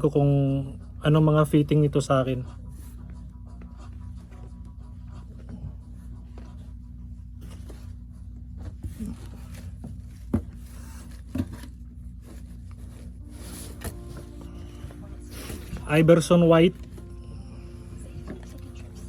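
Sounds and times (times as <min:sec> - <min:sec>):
low hum: 0:02.7 - 0:19.0.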